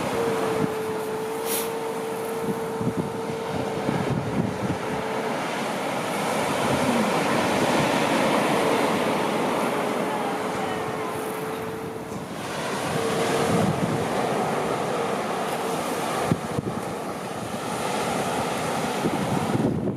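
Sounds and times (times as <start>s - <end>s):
surf washing onto beach: 0.0s - 19.9s
wind buffeting microphone: 0.0s - 19.9s.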